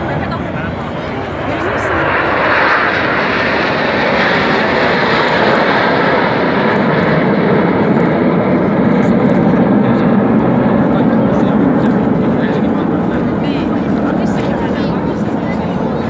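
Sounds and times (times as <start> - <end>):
jet engines roaring past: 0.0 - 16.0.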